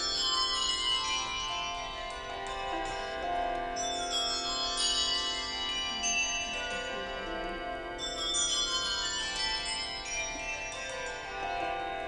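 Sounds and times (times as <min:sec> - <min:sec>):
handbells ringing: 0:00.0 - 0:12.0.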